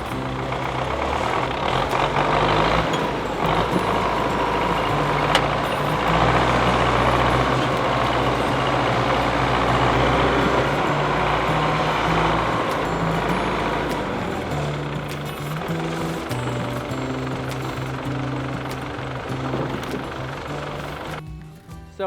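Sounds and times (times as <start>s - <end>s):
tractor diesel engine running: 0.0s - 21.2s.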